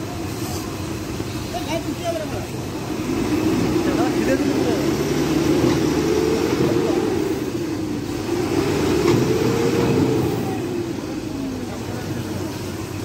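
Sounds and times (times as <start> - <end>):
truck diesel engine revving: 0.0 - 13.0.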